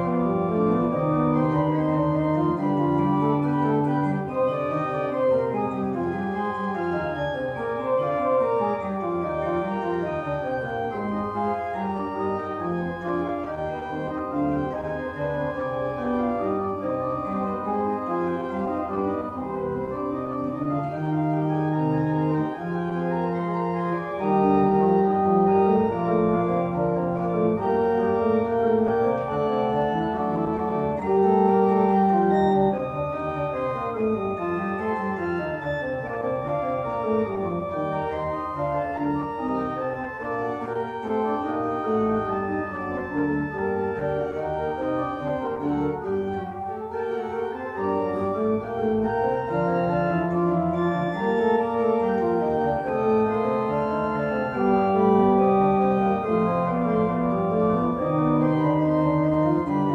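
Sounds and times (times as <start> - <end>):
church organ playing: 0.0 - 59.9.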